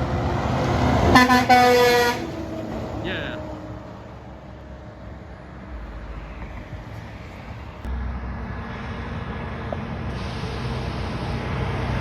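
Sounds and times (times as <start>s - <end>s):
road noise: 0.0s - 12.0s
truck diesel engine: 0.0s - 12.0s.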